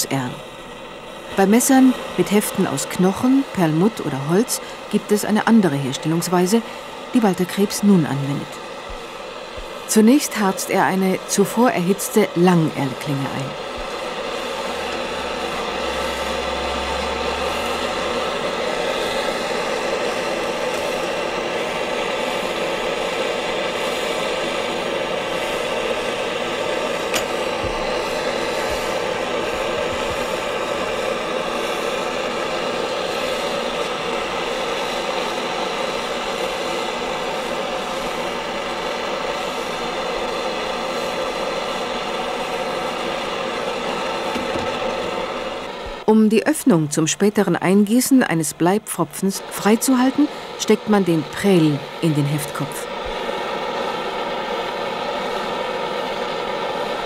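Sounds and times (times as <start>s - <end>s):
gas burner hissing: 0.0s - 57.0s.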